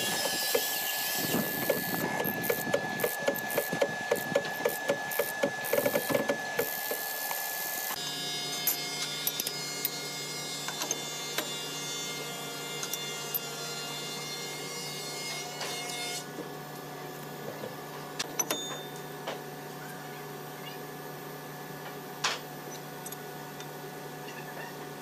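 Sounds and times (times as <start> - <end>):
electric machine hum: 0.0 - 24.2.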